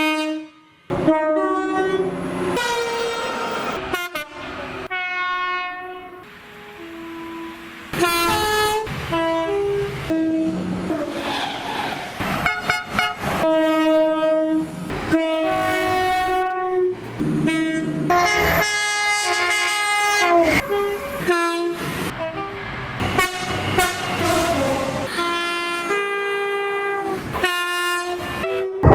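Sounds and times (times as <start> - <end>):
train horns: 0.0 - 11.3, 12.3 - 28.9
trains rumbling on rails: 0.9 - 28.9.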